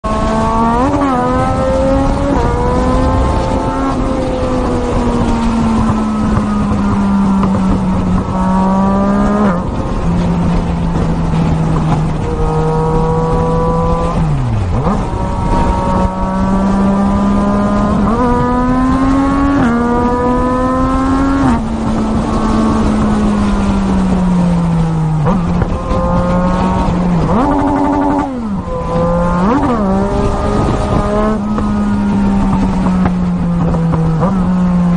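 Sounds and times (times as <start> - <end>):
racing motorcycle engine revving: 0.0 - 34.9.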